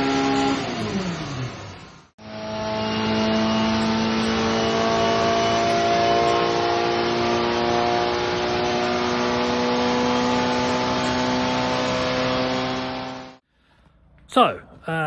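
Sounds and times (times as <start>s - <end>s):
racing car engine at high revs: 0.0s - 13.4s.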